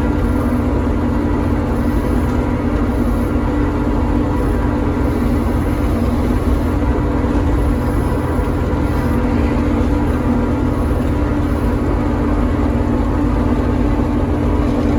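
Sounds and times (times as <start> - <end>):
farm machinery engines droning: 0.0 - 14.9.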